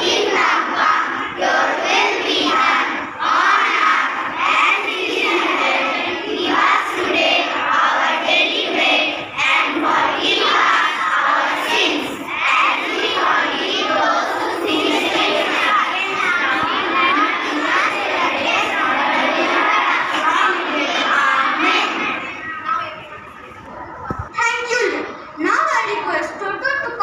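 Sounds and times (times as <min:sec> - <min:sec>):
children praying in chorus: 0:00.0 - 0:24.3.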